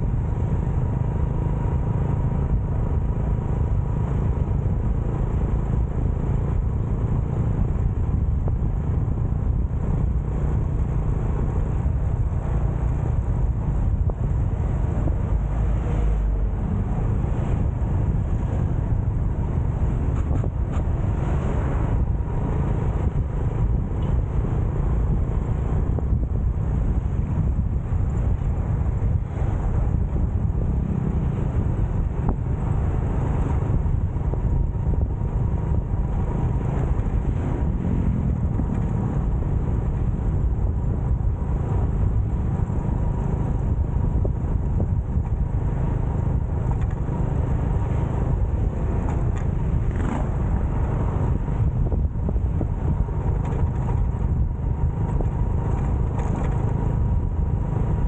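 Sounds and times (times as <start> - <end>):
motorcycle engine rumble: 0.0 - 58.0
road noise: 0.0 - 58.0.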